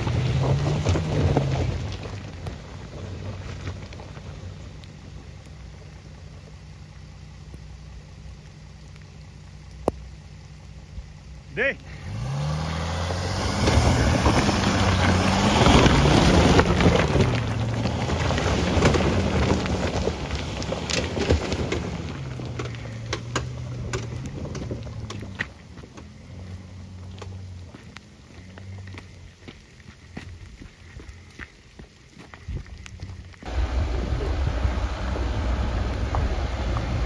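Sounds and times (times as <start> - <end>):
diesel engine revving uphill: 0.0 - 31.3, 33.1 - 37.0
stones crunching under tyres: 0.0 - 37.0.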